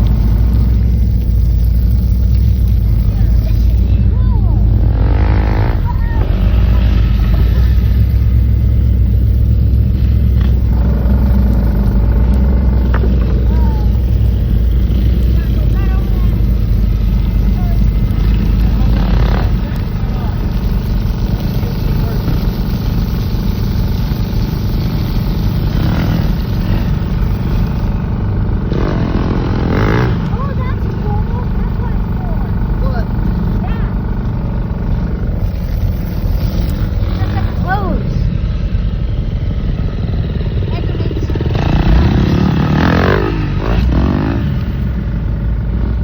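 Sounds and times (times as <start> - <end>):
faint steady whine: 0.0 - 46.0
vehicle engine rumbling: 0.0 - 46.0.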